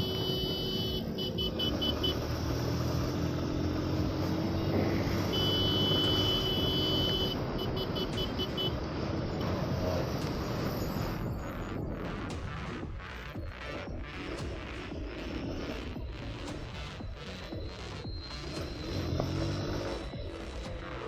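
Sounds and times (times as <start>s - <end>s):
high electronic beeps: 0.0s - 21.0s
road and wind noise: 0.0s - 21.0s.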